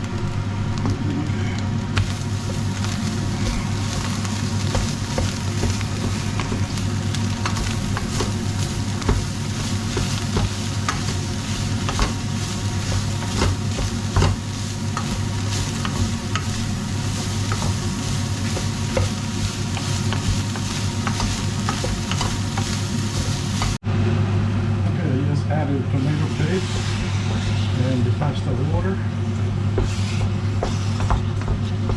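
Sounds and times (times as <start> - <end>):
meat sizzling in a pot: 1.7 - 23.8, 26.0 - 31.9
utensil scraping and knocking pot: 2.0 - 23.8, 26.0 - 31.9.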